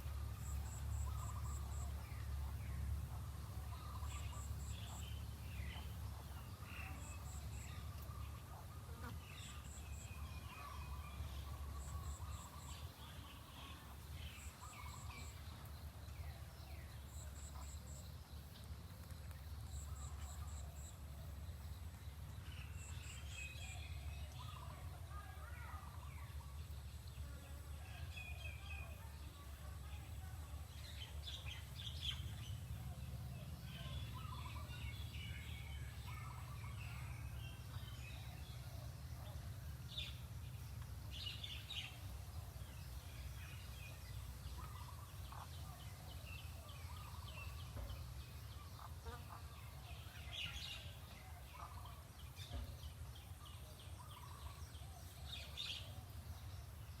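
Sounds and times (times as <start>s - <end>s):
birds calling and chirping: 0.0s - 57.0s.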